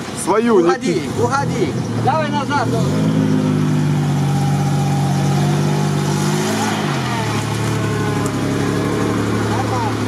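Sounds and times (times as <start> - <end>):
engine revving under load: 0.9 - 10.0.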